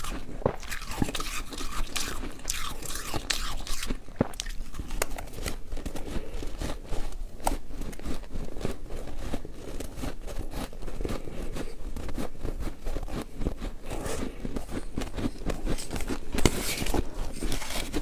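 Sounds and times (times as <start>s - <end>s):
ice being chewed: 0.0s - 18.0s.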